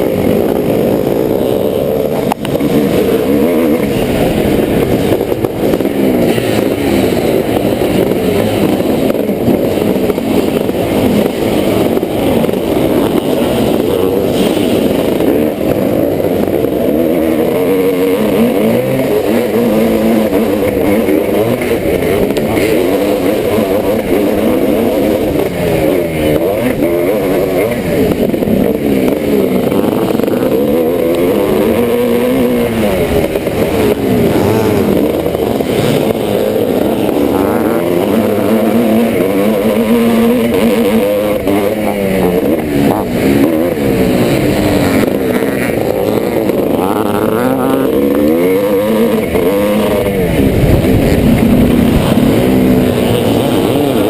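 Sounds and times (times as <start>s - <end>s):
motocross bike engine racing: 0.0s - 54.0s.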